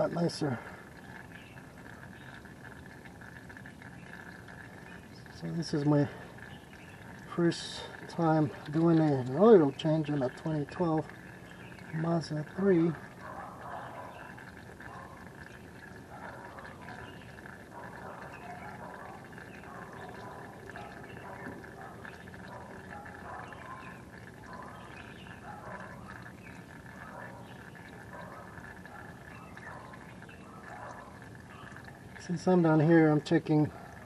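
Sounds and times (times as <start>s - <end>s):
faint steady hum: 0.0s - 34.0s
oil draining in a stream: 0.0s - 34.0s.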